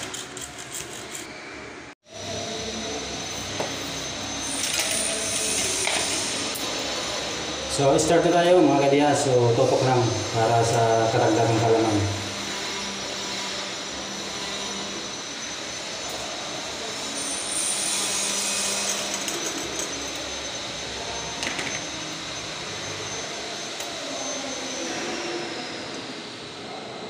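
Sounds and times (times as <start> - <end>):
mechanical drone and hiss: 0.0 - 27.0
high whining tones: 1.1 - 27.0.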